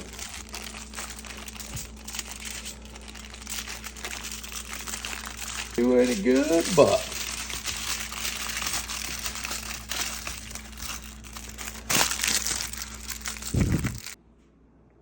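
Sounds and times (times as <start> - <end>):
plastic bag and foil crinkling: 0.0 - 14.2.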